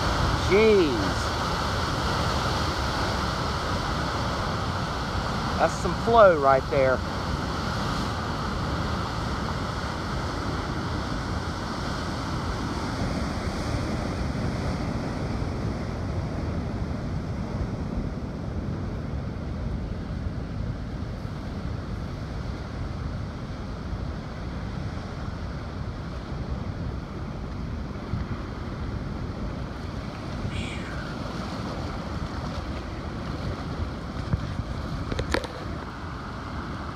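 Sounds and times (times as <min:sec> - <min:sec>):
wind noise on microphone: 0:00.0 - 0:05.6, 0:06.8 - 0:36.9
rushing churning whitewater: 0:00.0 - 0:36.9.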